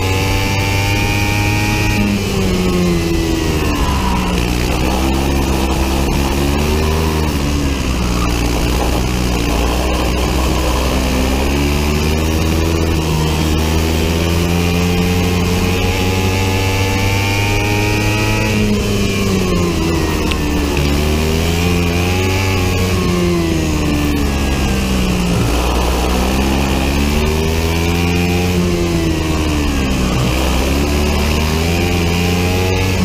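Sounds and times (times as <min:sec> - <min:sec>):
kart engine revving: 0:00.0 - 0:33.0.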